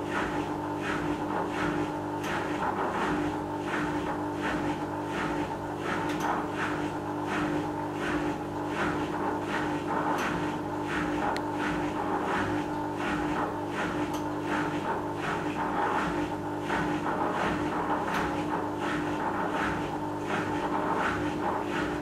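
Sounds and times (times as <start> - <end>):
drain pump humming: 0.0 - 22.0.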